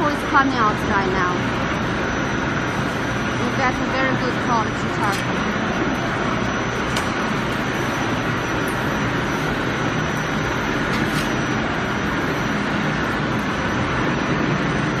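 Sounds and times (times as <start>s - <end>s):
furnace blowers and motors humming: 0.0s - 15.0s.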